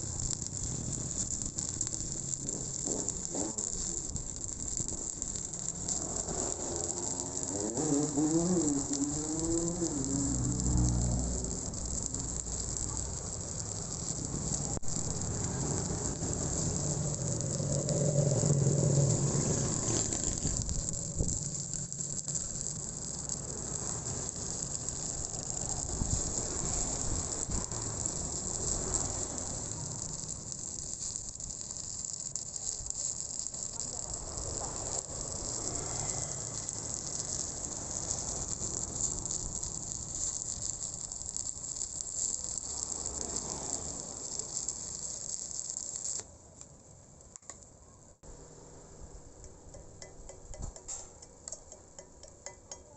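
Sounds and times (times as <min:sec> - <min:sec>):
welding arc crackling: 0:00.0 - 0:52.9.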